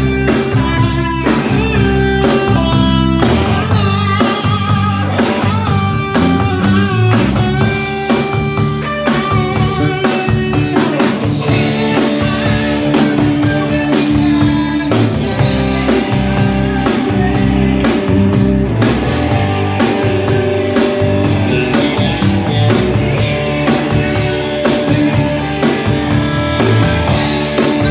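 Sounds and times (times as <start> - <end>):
live band playing: 0.0 - 27.9.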